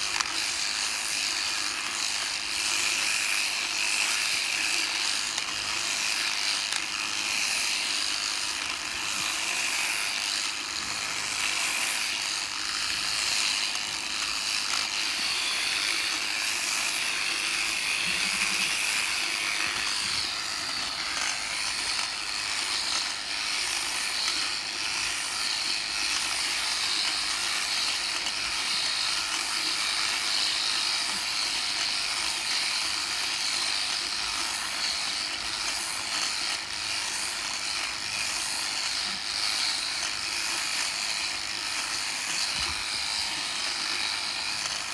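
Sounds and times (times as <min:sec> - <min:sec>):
electric shearing handpiece running: 0:00.0 - 0:44.9.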